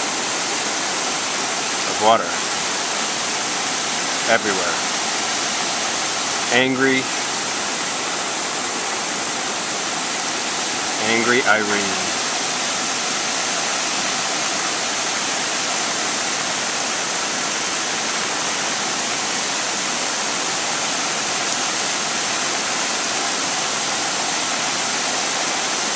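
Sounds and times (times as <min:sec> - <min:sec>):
river rushing: 0:00.0 - 0:25.9.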